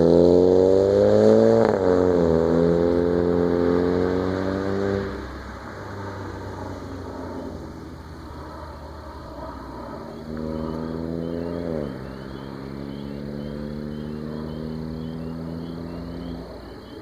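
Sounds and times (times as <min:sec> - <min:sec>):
car exhaust drone accelerating: 0:00.0 - 0:17.0.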